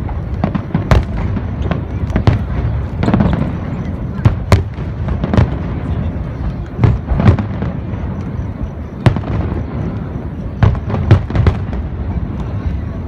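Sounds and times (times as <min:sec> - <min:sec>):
distant fireworks rumble: 0:00.0 - 0:13.0
fireworks booming: 0:00.0 - 0:13.0.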